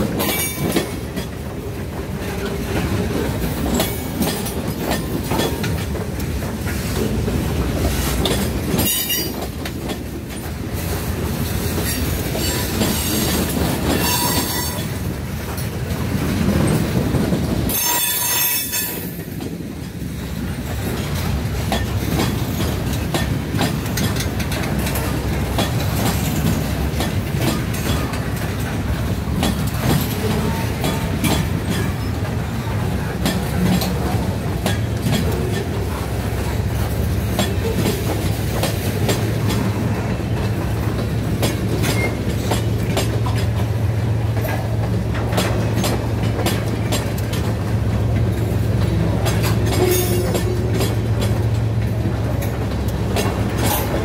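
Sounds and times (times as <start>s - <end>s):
train wheels clacking over rail joints: 0.0s - 54.0s.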